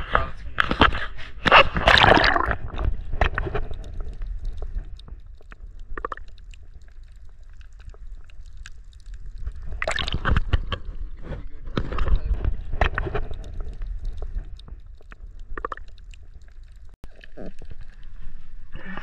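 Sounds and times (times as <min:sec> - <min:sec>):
water sloshing and gurgling: 0:00.6 - 0:19.0
water splashing: 0:01.6 - 0:11.2, 0:11.8 - 0:18.4.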